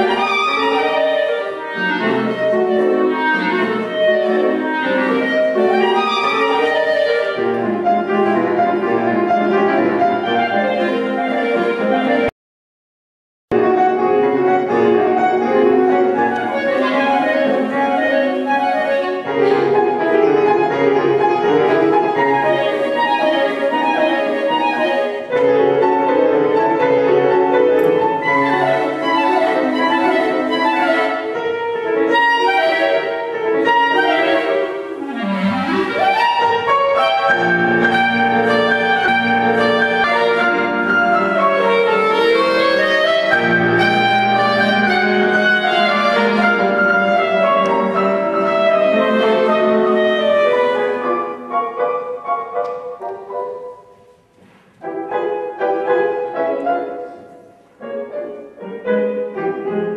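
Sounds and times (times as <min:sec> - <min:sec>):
clarinet: 0:00.0 - 0:12.3, 0:13.5 - 0:59.9
grand piano: 0:00.0 - 0:12.3, 0:13.5 - 0:59.9.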